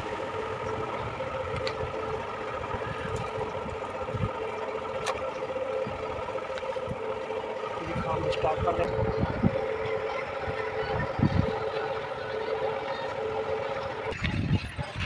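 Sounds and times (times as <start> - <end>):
motor humming steadily: 0.0 - 15.0.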